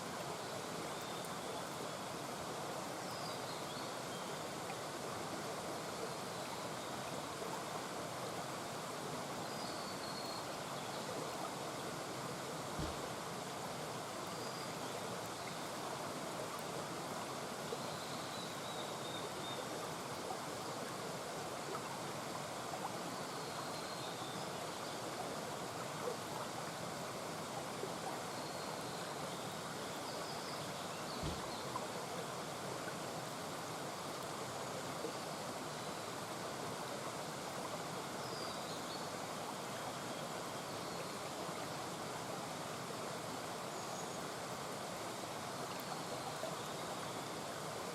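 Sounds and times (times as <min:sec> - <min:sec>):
mountain brook murmuring: 0:00.0 - 0:47.9.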